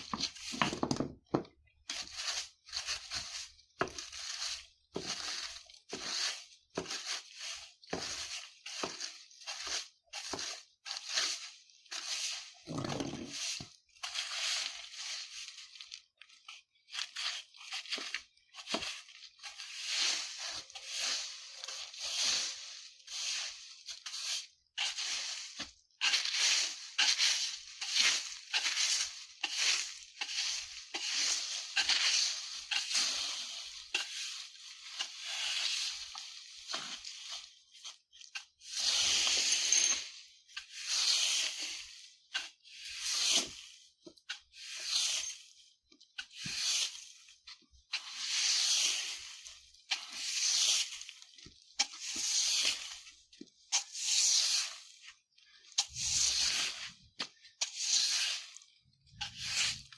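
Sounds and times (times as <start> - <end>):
broom sweeping dry leaves: 0.0 - 0.6, 1.8 - 59.9.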